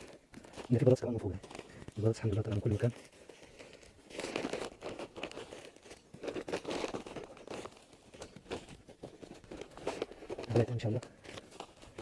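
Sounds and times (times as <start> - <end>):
plastic sack rustling: 0.0 - 12.0.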